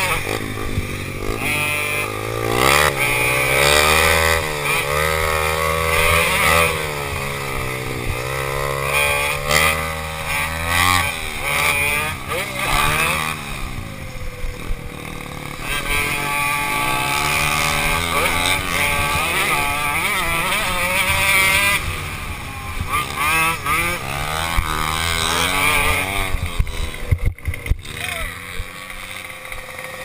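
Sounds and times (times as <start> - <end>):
small two-stroke engines revving: 0.0 - 30.0.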